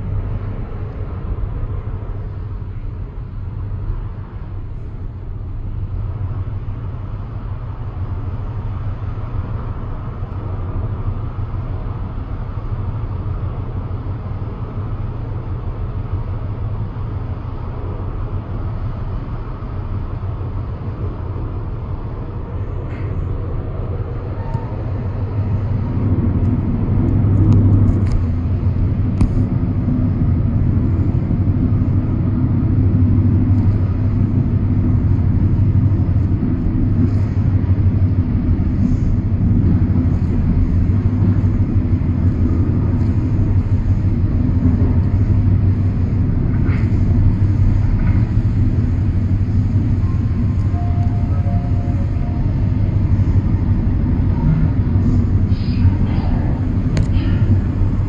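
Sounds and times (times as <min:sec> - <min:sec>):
train rumbling from inside carriage: 0:00.0 - 0:58.0.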